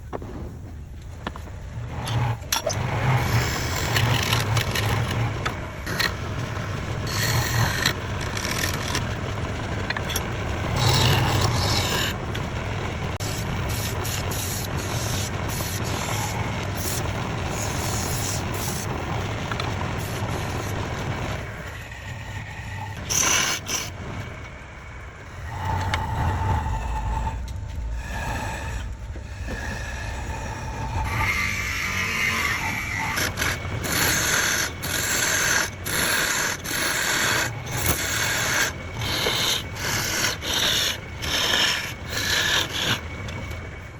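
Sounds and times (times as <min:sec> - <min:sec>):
tool scraping spinning wood: 0:01.2 - 0:24.4, 0:25.3 - 0:43.7
wood lathe running: 0:01.9 - 0:24.0, 0:29.4 - 0:43.6.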